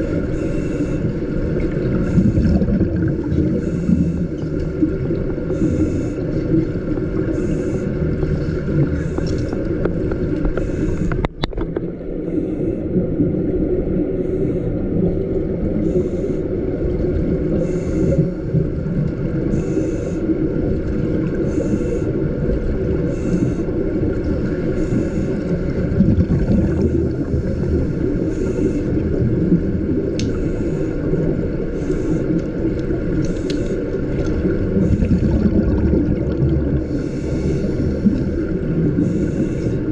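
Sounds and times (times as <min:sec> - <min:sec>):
low underwater rumble: 0:00.0 - 0:39.9
scuba regulator bubbling: 0:00.0 - 0:39.9.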